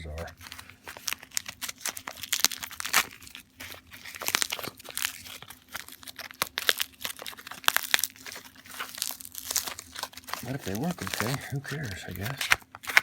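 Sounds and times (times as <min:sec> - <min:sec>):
packing material crinkling: 0:00.0 - 0:13.0.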